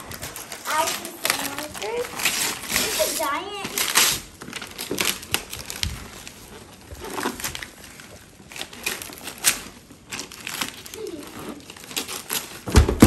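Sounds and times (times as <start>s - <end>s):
wrapping paper tearing and crinkling: 0.0s - 13.0s.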